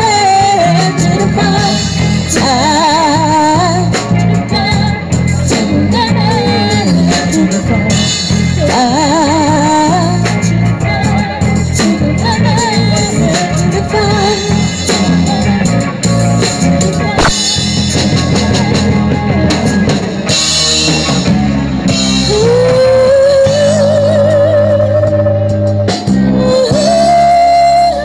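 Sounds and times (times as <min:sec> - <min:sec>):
rock band playing a ballad: 0:00.0 - 0:28.0.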